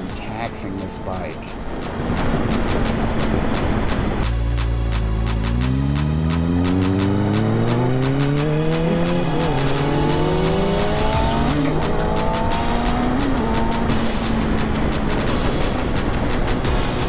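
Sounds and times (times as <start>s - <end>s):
background music with steady beat: 0.0s - 17.0s
motorcycle engine accelerating: 0.9s - 17.0s.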